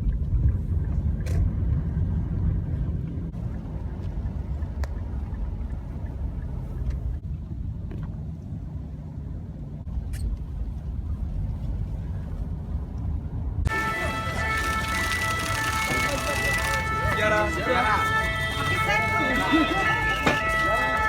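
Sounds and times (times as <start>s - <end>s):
vehicle rumble: 0.0s - 21.0s.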